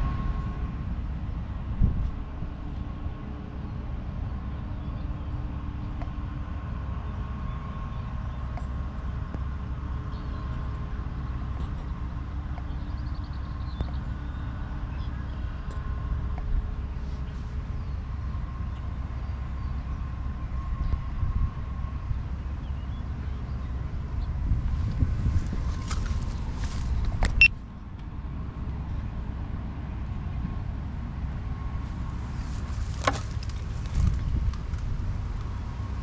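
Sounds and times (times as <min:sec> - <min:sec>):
faint hum: 0:00.0 - 0:36.0
low outdoor rumble: 0:00.0 - 0:36.0.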